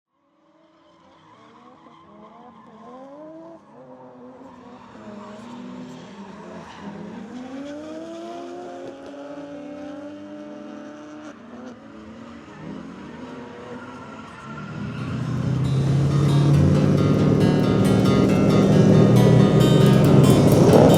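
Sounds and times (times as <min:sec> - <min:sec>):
tires skidding: 0:00.4 - 0:20.9
car engines revving: 0:00.5 - 0:20.9.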